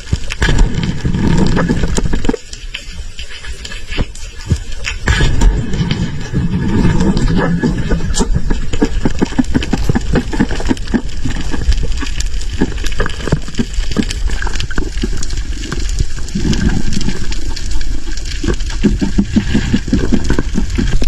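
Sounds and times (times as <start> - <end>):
quick crackling clicks: 0.0 - 21.0
water sloshing and gurgling: 0.0 - 21.0
low rumble: 0.4 - 2.4, 4.5 - 21.0.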